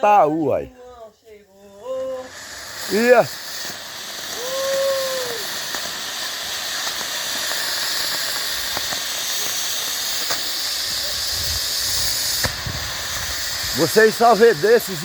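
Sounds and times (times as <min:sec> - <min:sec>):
firework hissing: 0:00.0 - 0:15.0
faint crackles: 0:02.1 - 0:15.0.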